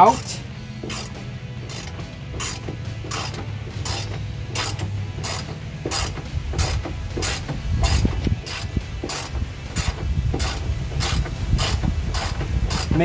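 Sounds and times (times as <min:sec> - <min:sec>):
socket ratchet clicking: 0:00.2 - 0:13.0.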